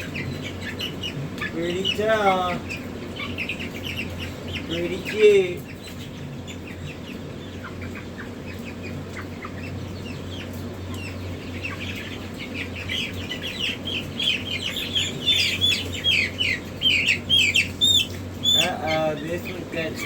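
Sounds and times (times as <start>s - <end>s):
chicks peeping: 0.0s - 20.0s
steady low hum: 0.0s - 20.0s.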